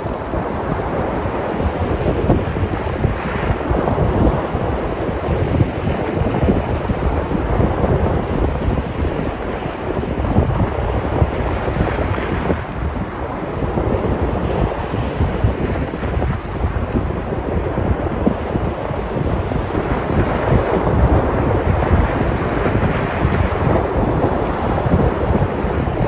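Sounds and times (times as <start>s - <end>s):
surf breaking on shore: 0.0s - 26.0s
wind buffeting microphone: 0.0s - 26.0s.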